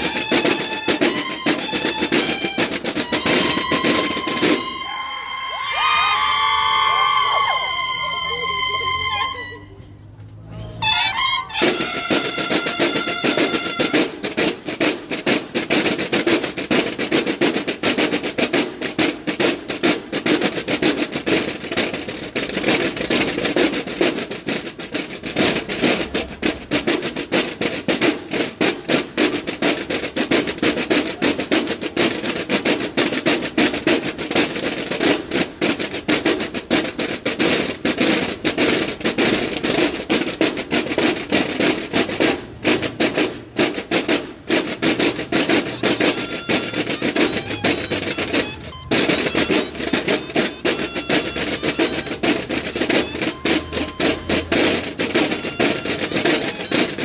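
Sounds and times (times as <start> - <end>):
marching snare drums: 0.0 - 9.5, 10.8 - 57.0.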